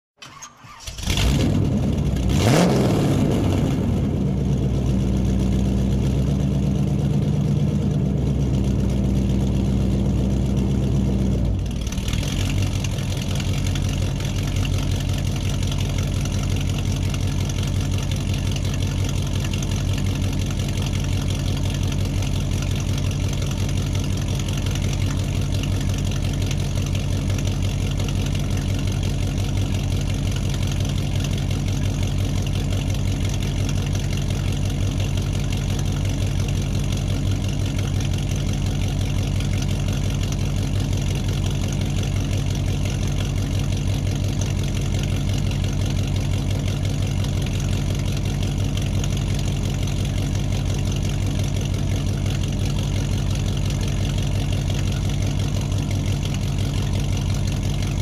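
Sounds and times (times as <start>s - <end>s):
car engine idling: 0.2s - 58.0s.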